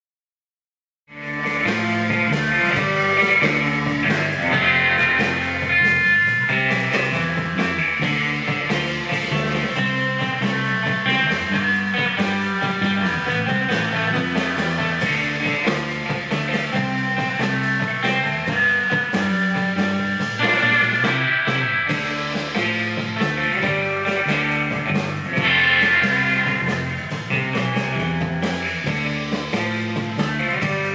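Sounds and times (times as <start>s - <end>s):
band playing surf rock: 1.1s - 30.9s
electric guitar melody: 1.1s - 30.9s.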